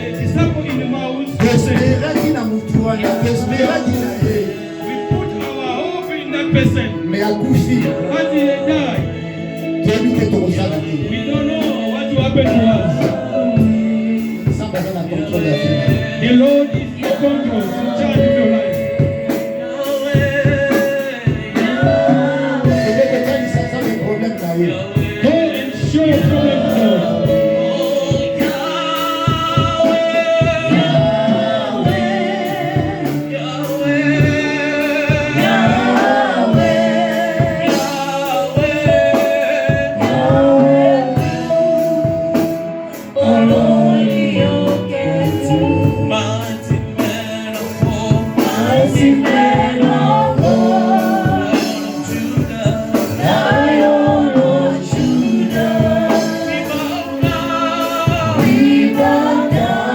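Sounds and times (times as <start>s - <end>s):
gospel singing with accompaniment: 0.0s - 59.9s.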